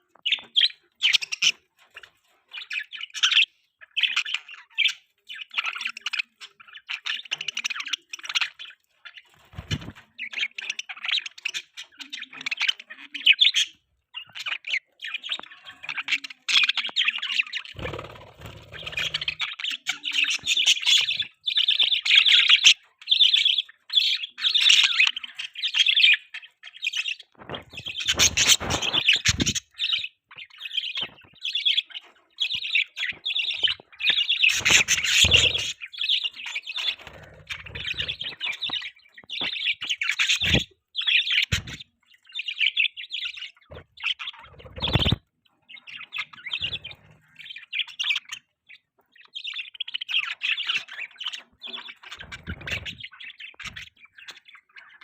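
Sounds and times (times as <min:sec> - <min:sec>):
budgies chirping: 0:00.0 - 0:55.0.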